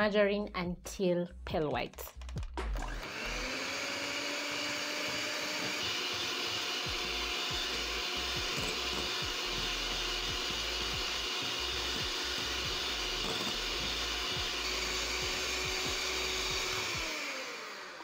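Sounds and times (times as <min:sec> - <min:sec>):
electric hand mixer whipping: 0:02.7 - 0:18.0.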